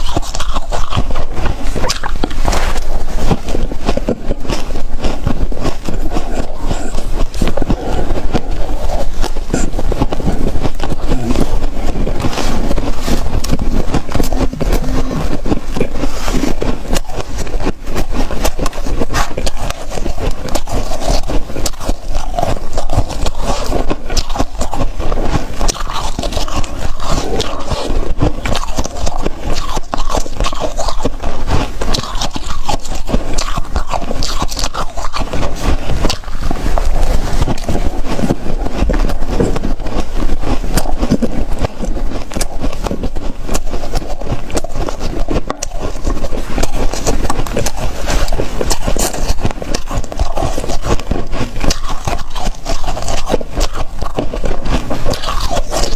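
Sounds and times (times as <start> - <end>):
ice crunching between teeth: 0.0 - 55.9.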